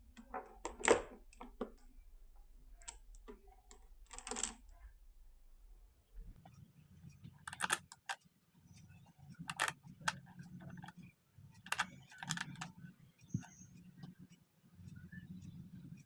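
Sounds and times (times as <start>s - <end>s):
magnetic balls clicking: 0.0s - 4.9s, 6.2s - 16.0s
low steady hum: 0.0s - 16.0s.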